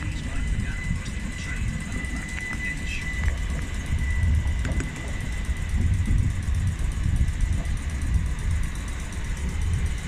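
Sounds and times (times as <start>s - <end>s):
high-pitched whine: 0.0s - 10.0s
train rumbling: 0.0s - 10.0s.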